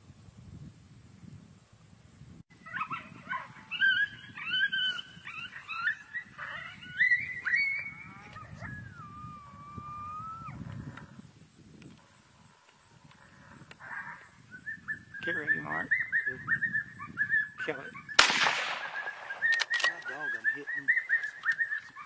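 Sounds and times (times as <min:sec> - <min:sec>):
coyotes yipping and howling: 0:02.5 - 0:22.0.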